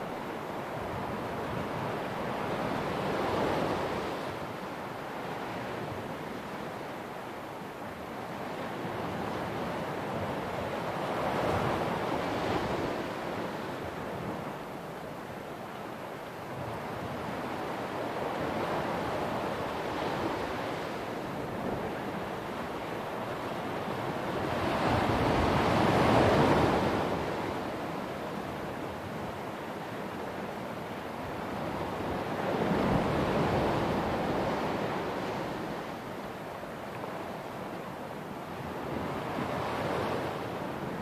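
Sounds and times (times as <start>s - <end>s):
sea waves breaking on a beach: 0.0s - 41.0s.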